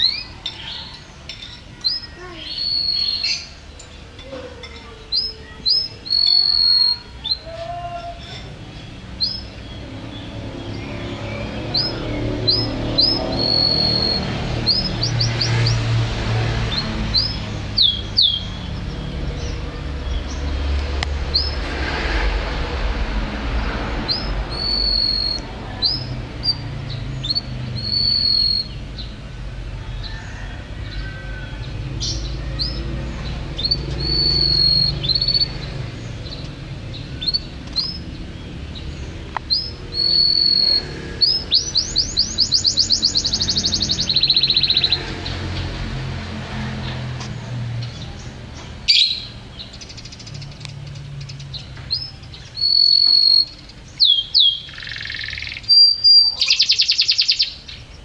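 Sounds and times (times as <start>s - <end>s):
canary singing: 0.0s - 21.6s, 24.0s - 46.1s, 48.8s - 58.0s.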